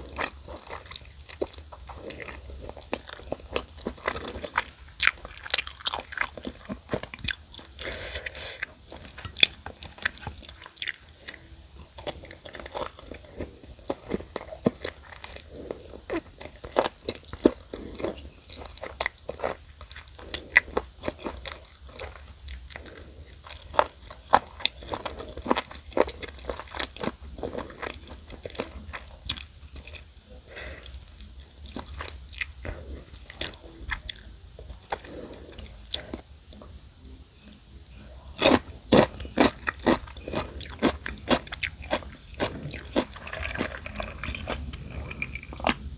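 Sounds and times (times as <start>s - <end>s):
crunching fried chicken: 0.0s - 36.3s, 37.5s - 45.9s.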